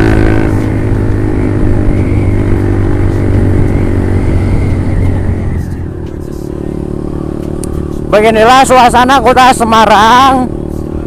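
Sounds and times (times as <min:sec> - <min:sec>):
motorcycle engine while riding: 0:00.0 - 0:11.0.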